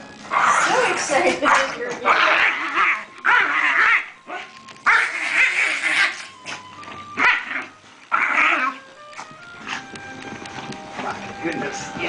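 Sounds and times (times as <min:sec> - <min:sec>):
puppies barking and yapping: 0:00.2 - 0:11.2.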